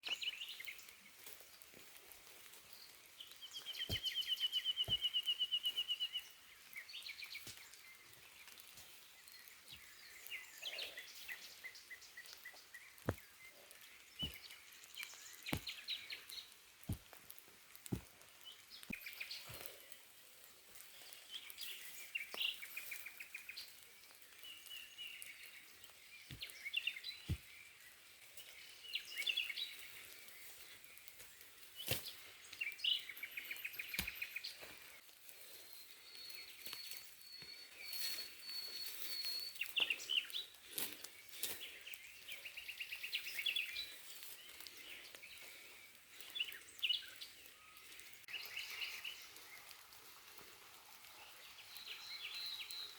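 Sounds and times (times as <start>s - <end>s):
forest birds chirping: 0.0s - 52.9s.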